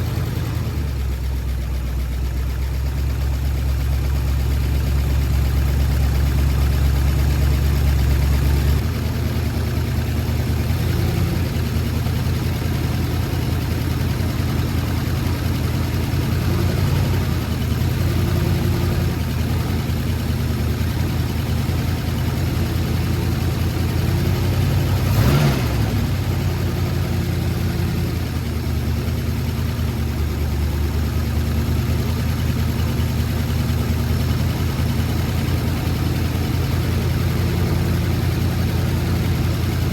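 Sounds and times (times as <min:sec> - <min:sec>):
engine idling with exhaust leak: 0:00.0 - 0:39.9.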